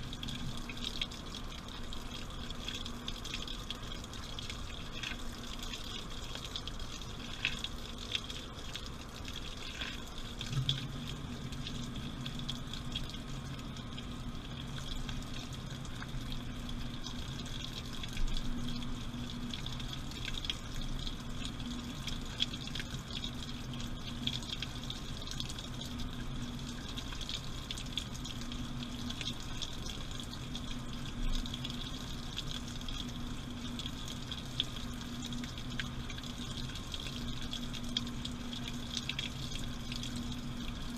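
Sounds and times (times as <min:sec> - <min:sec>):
steady low hum: 0:00.0 - 0:40.9
water sloshing in washing machine: 0:00.0 - 0:40.9.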